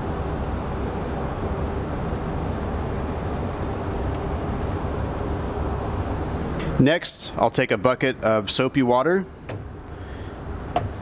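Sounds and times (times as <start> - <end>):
faint constant hum: 0.0 - 11.0
low background rumble: 0.0 - 11.0.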